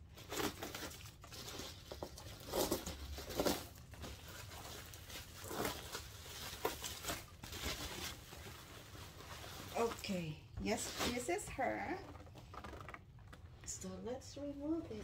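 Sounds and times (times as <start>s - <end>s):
packaging rustling and crinkling: 0.0s - 13.6s.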